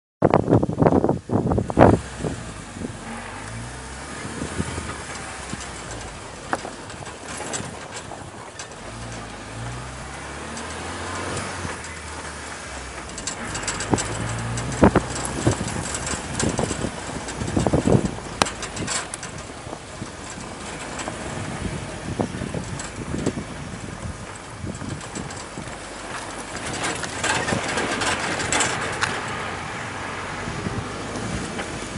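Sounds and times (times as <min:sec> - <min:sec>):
car engine drone: 0:00.3 - 0:31.9
engine knocks: 0:00.3 - 0:31.9.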